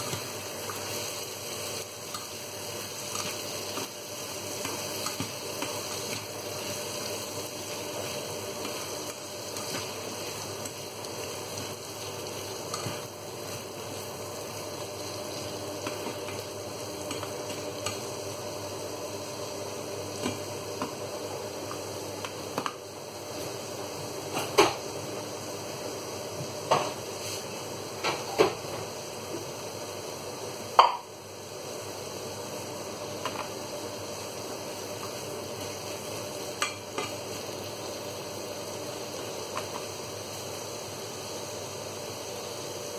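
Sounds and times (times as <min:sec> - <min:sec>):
vegetables sizzling in a frying pan: 0:00.0 - 0:42.9.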